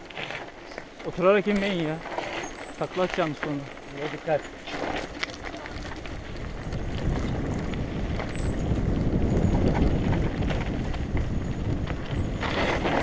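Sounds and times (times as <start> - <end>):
bike rattles and clicks: 0.0 - 13.0
tyres rumbling over dirt: 0.0 - 13.0.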